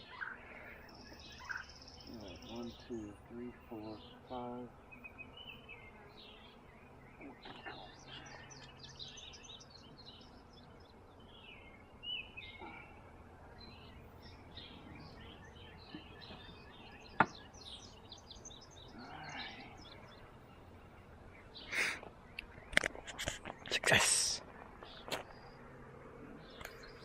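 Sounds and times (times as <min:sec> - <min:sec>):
birds chirping and singing: 0:00.0 - 0:27.0.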